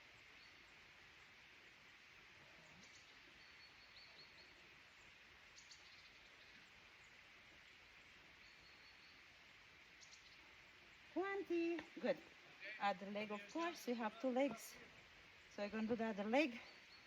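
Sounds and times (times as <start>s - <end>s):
forest background hiss: 0.0s - 17.0s
distant bird chirps: 2.6s - 17.0s.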